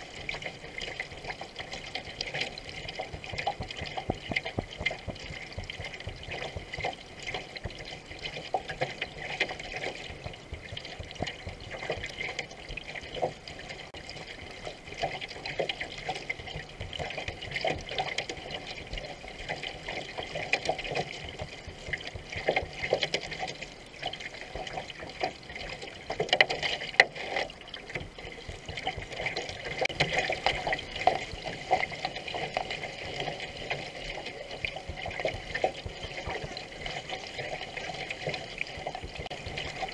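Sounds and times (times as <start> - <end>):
paddle splashes: 0.0 - 39.9
water rushing along a hull: 0.0 - 39.9.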